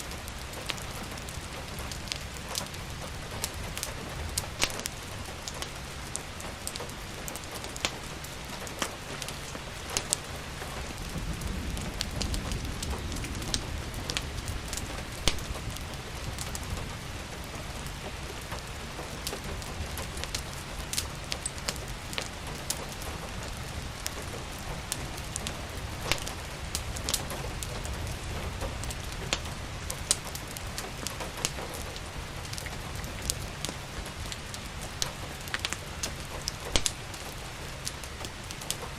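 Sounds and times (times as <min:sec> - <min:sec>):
steady rain falling: 0:00.0 - 0:38.9
wood fire crackling: 0:00.0 - 0:38.9.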